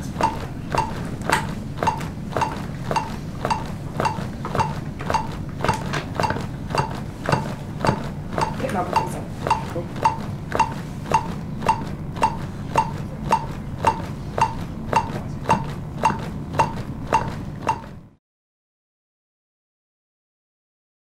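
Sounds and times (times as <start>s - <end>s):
low steady hum: 0.0s - 18.2s
metronome beeping: 0.2s - 1.0s, 1.8s - 18.0s.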